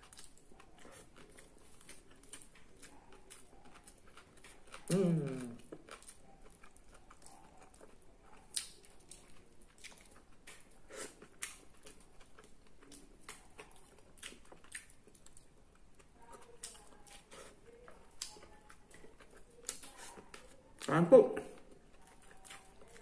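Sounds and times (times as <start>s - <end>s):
chewing and mouth smacks: 0.0s - 23.0s.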